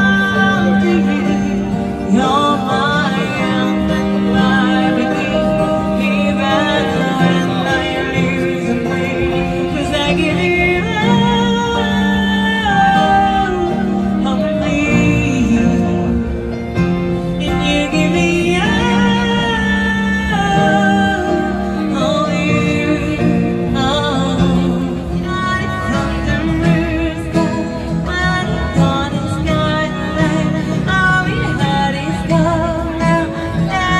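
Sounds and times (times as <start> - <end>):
acoustic guitar: 0.0 - 33.9
woman singing into a microphone: 0.0 - 33.9.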